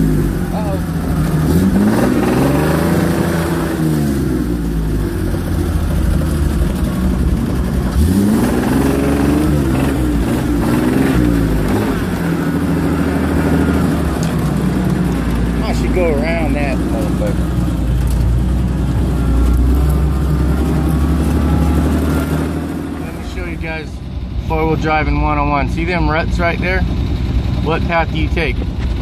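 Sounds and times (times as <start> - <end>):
off-road vehicle engine revving: 0.0 - 29.0.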